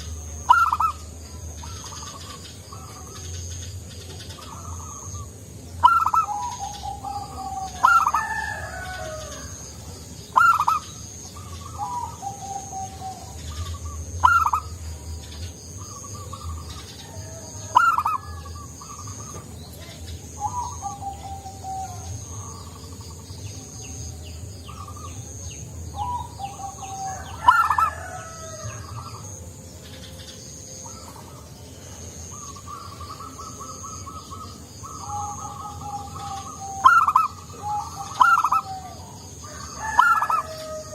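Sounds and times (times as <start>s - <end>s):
dove calls: 0.0s - 40.9s.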